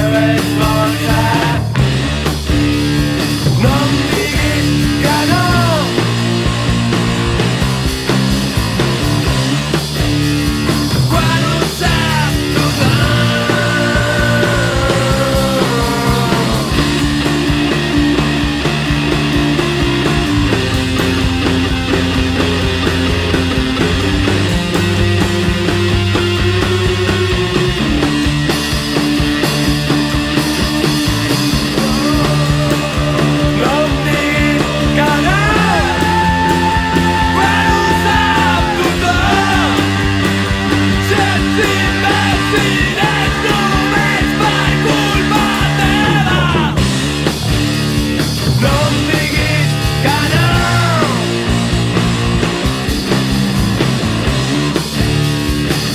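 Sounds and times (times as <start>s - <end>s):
punk rock band playing: 0.0s - 55.9s.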